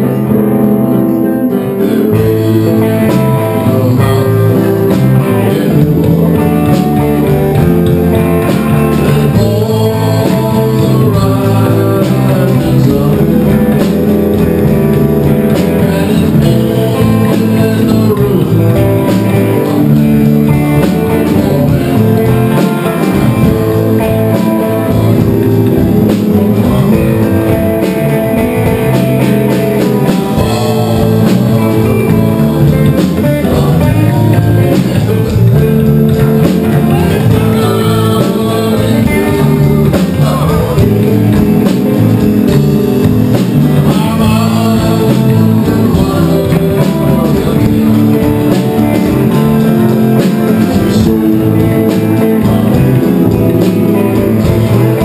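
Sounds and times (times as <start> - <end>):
drum kit beat: 0.0 - 55.0
electric guitars: 0.0 - 55.0.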